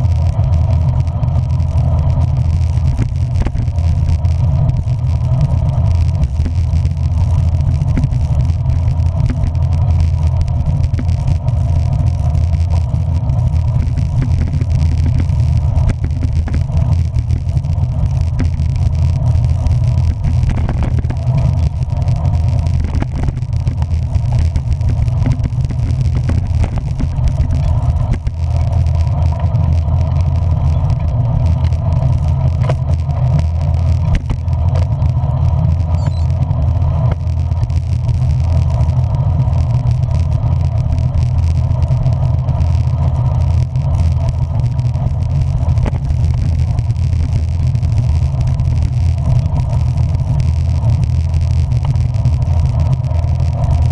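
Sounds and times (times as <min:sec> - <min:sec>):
vehicle rumble of motor and wheels: 0:00.0 - 0:53.9.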